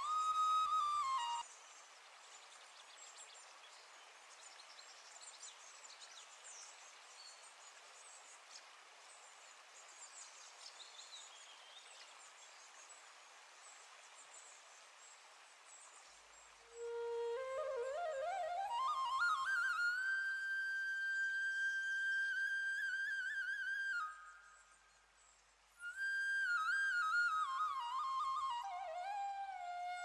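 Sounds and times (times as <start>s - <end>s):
soft steady hiss: 0.0s - 30.0s.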